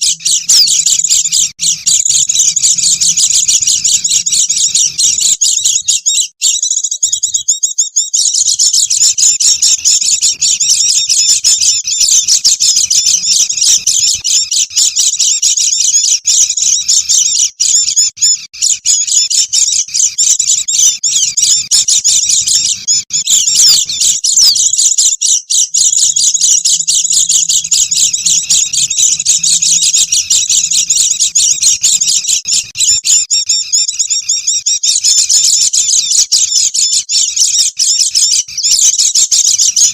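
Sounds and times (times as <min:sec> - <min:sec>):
flock of birds twittering: 0:00.0 - 0:39.9.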